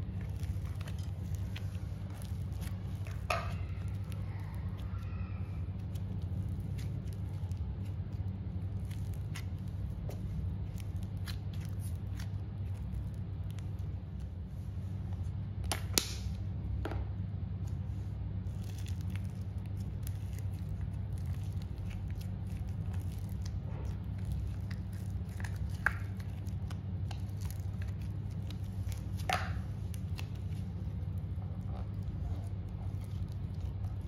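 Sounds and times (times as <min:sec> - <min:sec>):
slime squishing and crackling: 0:00.0 - 0:16.6, 0:17.4 - 0:34.0
steady low hum: 0:00.0 - 0:34.0.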